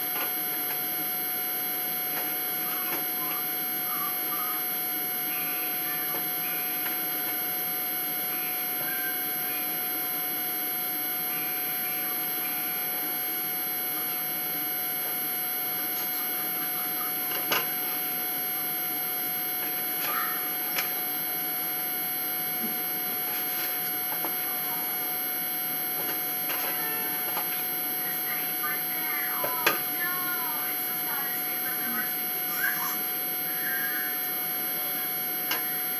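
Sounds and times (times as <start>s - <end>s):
steady hum and hiss: 0.0s - 35.9s
thin whine: 0.0s - 35.9s.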